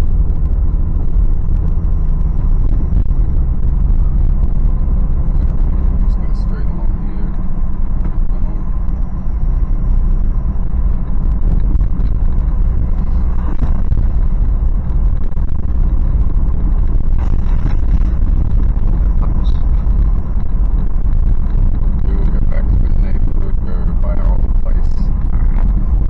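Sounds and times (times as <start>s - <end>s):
engine rumble inside cabin: 0.0s - 26.0s.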